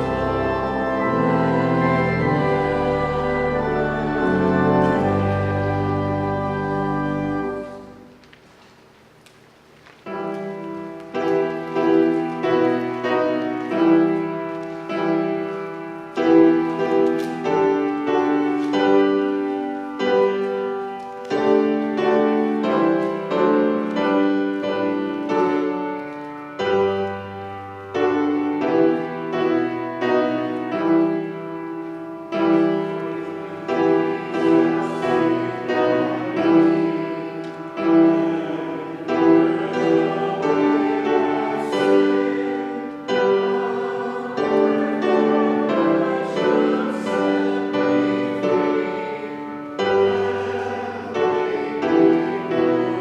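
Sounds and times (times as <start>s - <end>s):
slow piano chords: 0.0s - 53.0s.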